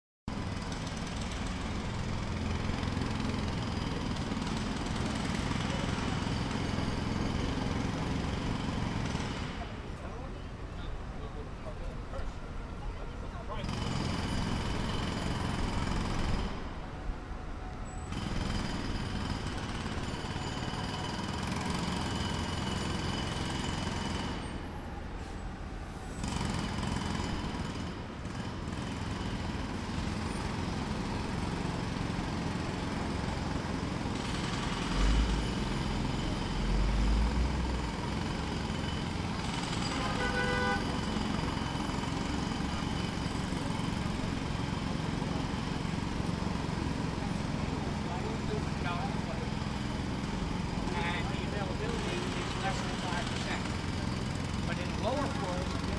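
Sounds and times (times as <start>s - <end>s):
distant jackhammer hammering: 0.3s - 10.3s, 13.6s - 17.0s, 18.1s - 25.0s, 26.1s - 55.9s
urban traffic noise: 0.3s - 55.9s.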